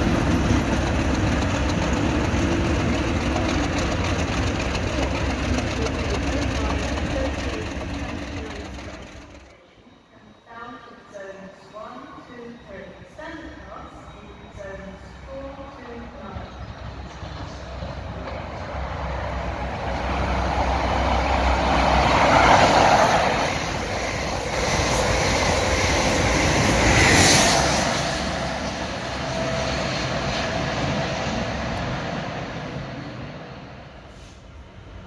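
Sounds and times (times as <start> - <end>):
train passing at speed: 0.0 - 10.4, 11.7 - 35.0.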